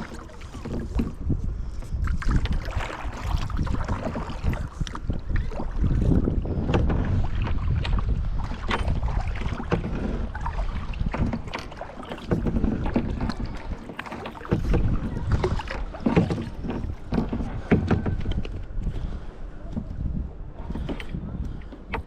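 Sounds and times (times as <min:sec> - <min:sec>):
paddle knocks against hull: 0:00.0 - 0:22.0
paddle strokes splashing water: 0:00.0 - 0:22.0
wind rumble on microphone: 0:00.0 - 0:22.0.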